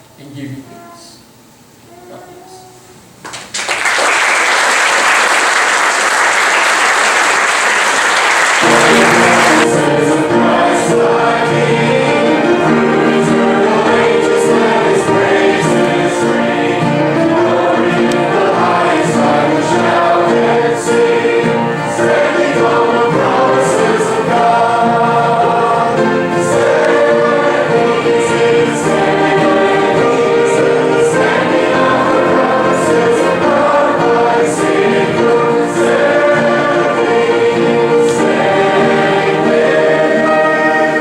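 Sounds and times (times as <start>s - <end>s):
congregation applauding: 3.2s - 41.0s
gospel song group singing: 6.8s - 41.0s.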